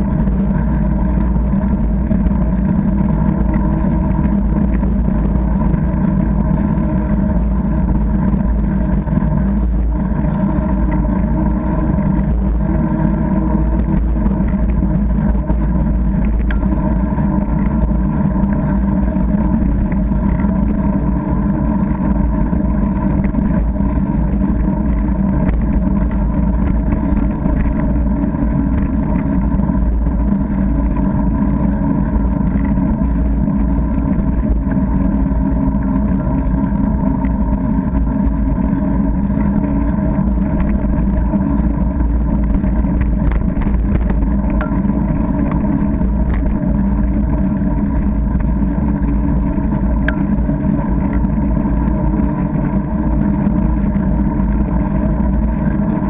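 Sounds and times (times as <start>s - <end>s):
wind noise: 0.0s - 54.8s
bicycle road rumble: 0.0s - 56.0s
constant hum: 0.0s - 56.0s.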